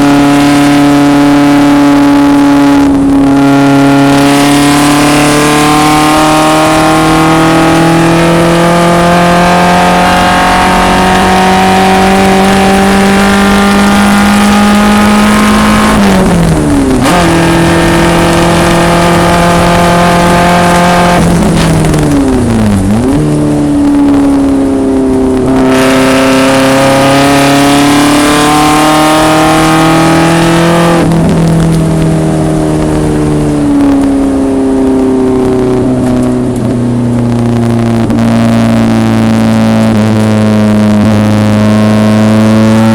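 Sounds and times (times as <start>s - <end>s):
racing car engine revving: 0.0s - 42.9s.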